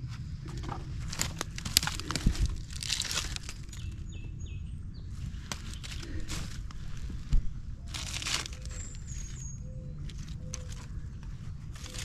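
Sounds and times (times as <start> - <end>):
dry debris and plastic crunching: 0.4 - 4.3, 5.2 - 12.0.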